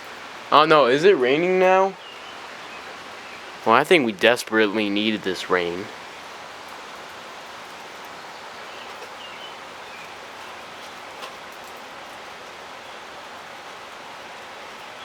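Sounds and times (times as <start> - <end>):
light rain hiss: 0.0 - 15.0
raindrop ticks: 0.0 - 15.0.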